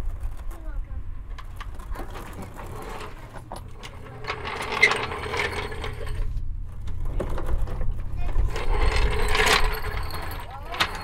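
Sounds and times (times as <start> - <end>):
floor jack rattling: 1.4 - 11.0.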